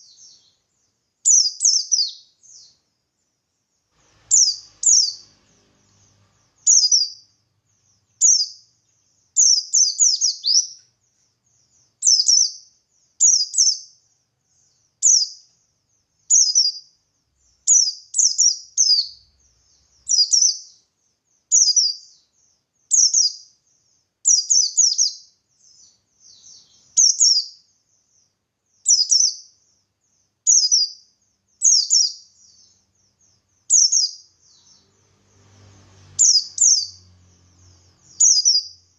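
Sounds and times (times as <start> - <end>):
white-eye bird chirping: 0.0 - 2.8, 4.2 - 20.8, 21.5 - 35.0, 36.2 - 38.9.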